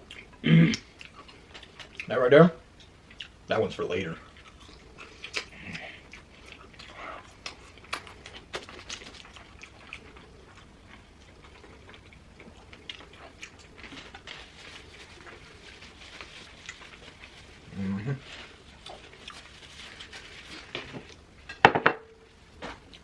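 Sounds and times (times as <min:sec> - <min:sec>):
people chewing food: 0:00.0 - 0:21.6, 0:22.3 - 0:23.0.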